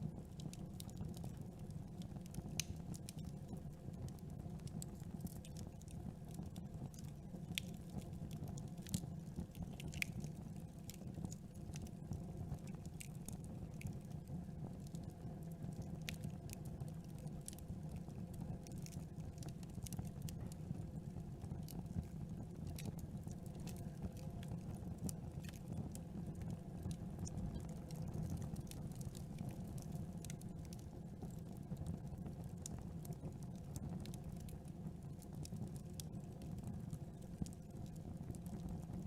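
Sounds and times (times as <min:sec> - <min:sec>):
burning wood crackling and popping: 0:00.0 - 0:39.0
campfire flames rumbling: 0:00.0 - 0:39.0.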